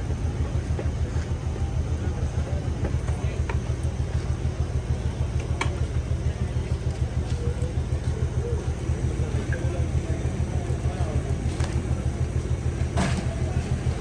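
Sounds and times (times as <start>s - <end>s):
motor running with low throb: 0.0s - 14.0s.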